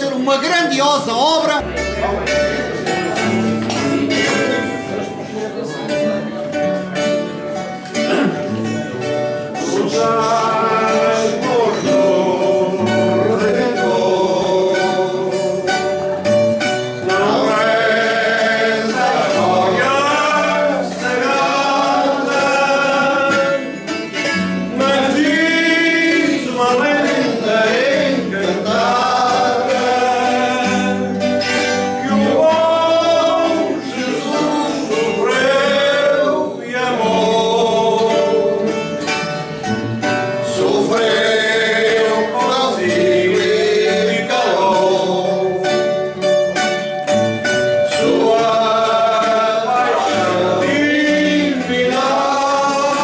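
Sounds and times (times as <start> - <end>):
plucked guitars: 0.0 - 53.0
man singing with vibrato: 7.5 - 53.0.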